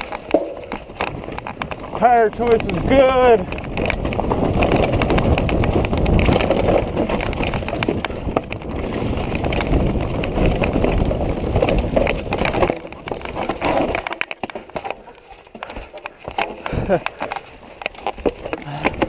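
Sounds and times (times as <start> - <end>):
mountain bike rattling over rocks: 0.0 - 19.0.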